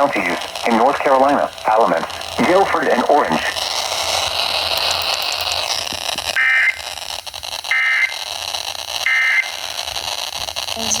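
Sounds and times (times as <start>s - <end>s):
radio static: 0.0s - 11.0s
short digital data bursts: 0.0s - 11.0s.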